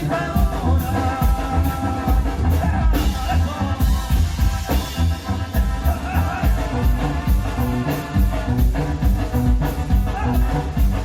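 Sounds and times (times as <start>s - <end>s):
tuba-style bass line: 0.0s - 11.0s.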